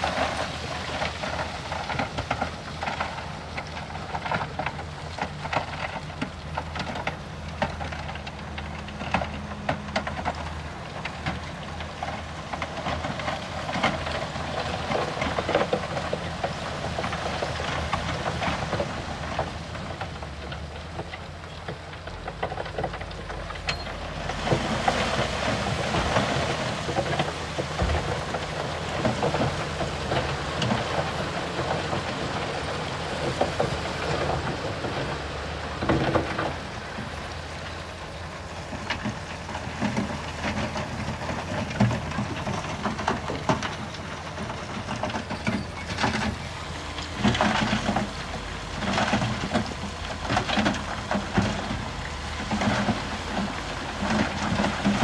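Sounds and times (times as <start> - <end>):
diesel engine running low: 0.0 - 55.0
stone crackling and clattering: 0.0 - 55.0.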